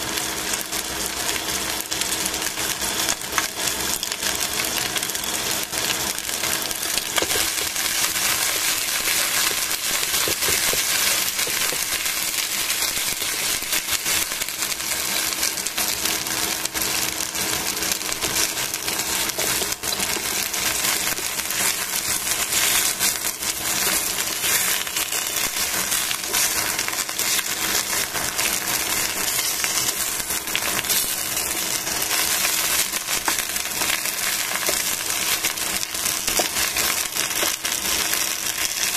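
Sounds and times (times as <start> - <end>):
chicken sizzling in oil: 0.0 - 38.9.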